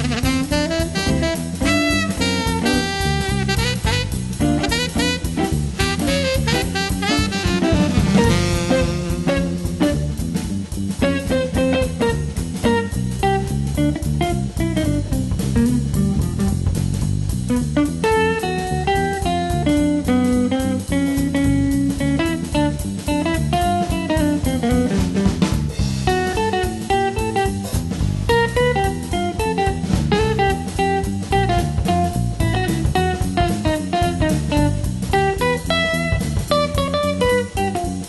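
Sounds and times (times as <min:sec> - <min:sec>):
instrumental music with guitar and drums: 0:00.0 - 0:38.0.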